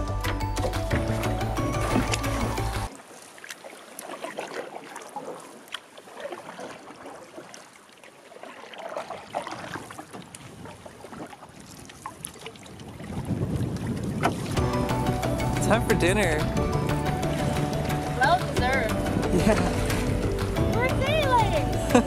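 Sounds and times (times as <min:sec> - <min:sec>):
paddle splashing in water: 0:00.0 - 0:22.0
water lapping around canoe: 0:00.0 - 0:22.0.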